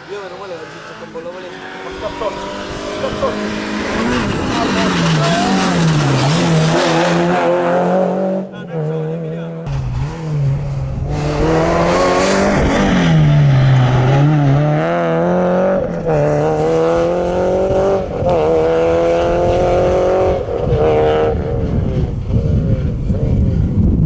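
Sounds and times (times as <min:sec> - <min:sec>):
rally car engine revving: 0:00.0 - 0:24.0
road and wind noise: 0:00.0 - 0:24.0.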